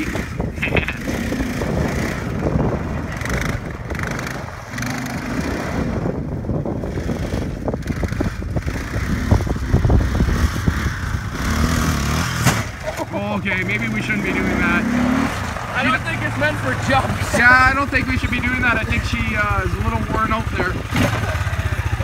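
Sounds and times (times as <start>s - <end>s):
wind buffeting on microphone: 0.0s - 12.4s, 15.3s - 22.0s
quad bike engine running: 0.0s - 22.0s.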